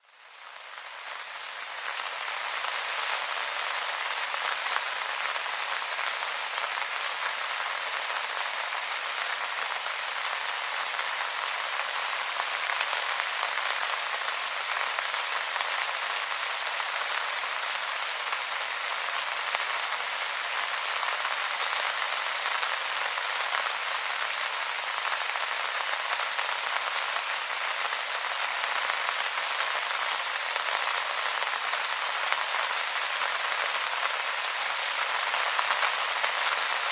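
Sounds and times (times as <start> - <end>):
rain falling on wet leaves: 0.0 - 36.9.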